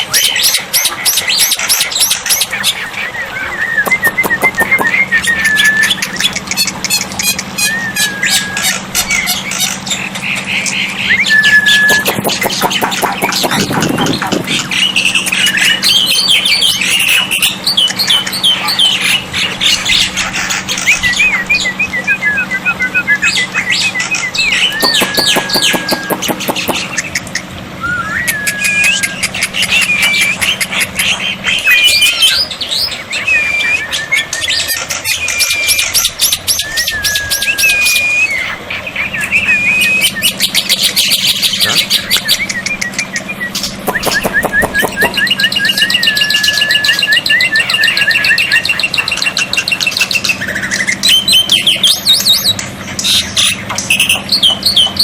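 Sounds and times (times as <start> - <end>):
bird singing whistles and chirps: 0.0 - 10.0, 10.8 - 20.1, 20.8 - 27.0, 27.8 - 55.0.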